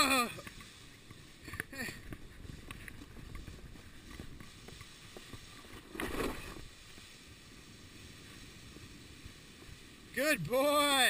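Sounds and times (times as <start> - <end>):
plastic sled scraping over snow: 0.0 - 11.0.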